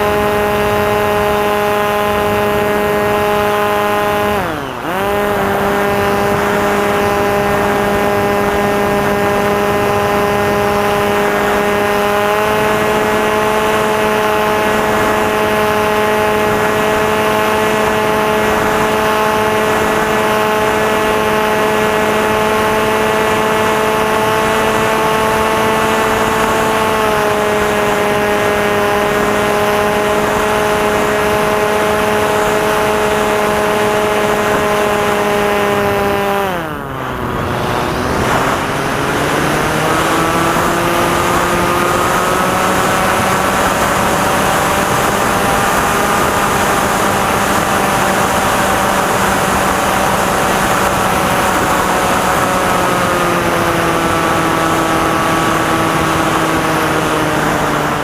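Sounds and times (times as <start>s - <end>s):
electric motor and propeller whine: 0.0s - 58.0s
low hum: 0.0s - 58.0s.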